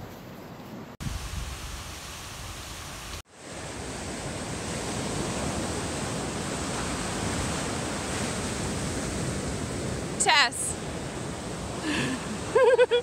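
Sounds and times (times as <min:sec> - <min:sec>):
ocean surf breaking on a beach: 0:01.0 - 0:13.0.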